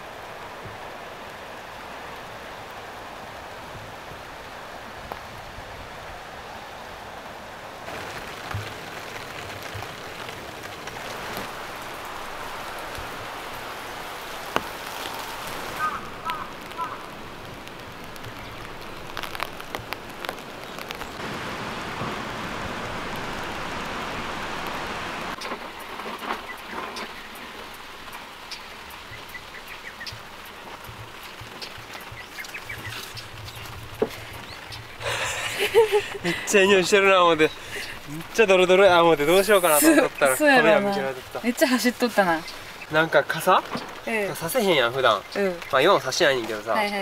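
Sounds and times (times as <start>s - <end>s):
steady rain falling: 0.0s - 47.0s
louder raindrops tapping: 7.9s - 47.0s.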